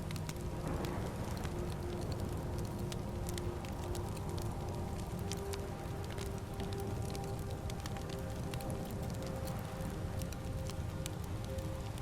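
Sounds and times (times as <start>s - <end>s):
fire crackling: 0.0s - 12.0s
rain: 0.0s - 12.0s
soft music of held tones: 0.0s - 12.0s.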